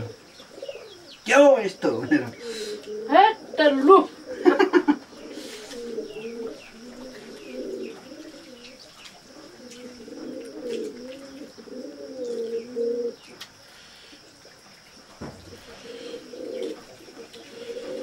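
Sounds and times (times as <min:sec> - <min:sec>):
pigeons cooing: 0:00.0 - 0:18.0
small birds chirping: 0:00.0 - 0:18.0.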